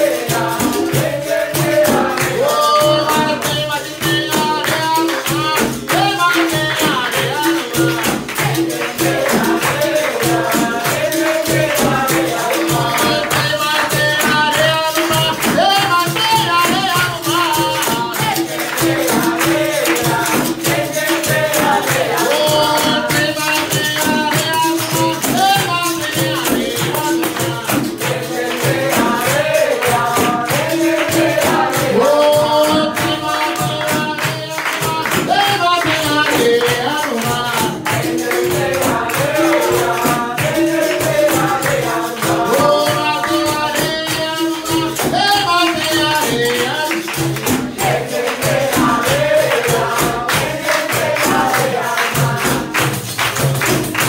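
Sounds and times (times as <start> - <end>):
berimbaus and drums playing: 0.0 - 54.0
group of voices singing: 0.0 - 54.0
hand clapping: 0.0 - 54.0.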